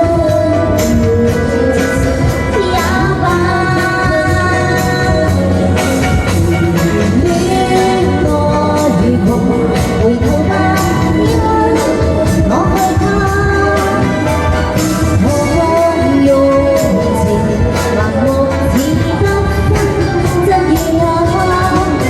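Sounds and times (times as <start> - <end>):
pop song with full band: 0.0 - 22.0.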